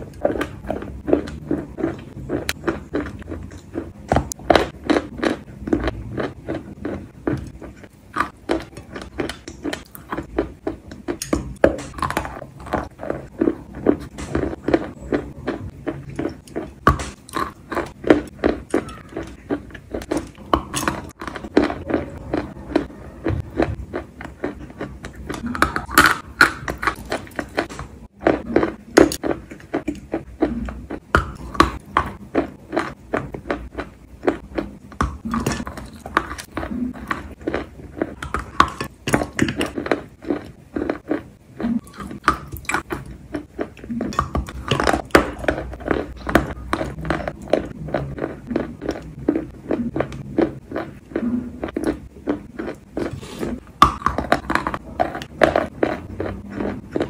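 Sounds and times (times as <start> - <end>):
wet crunchy chewing: 0.0 - 57.0.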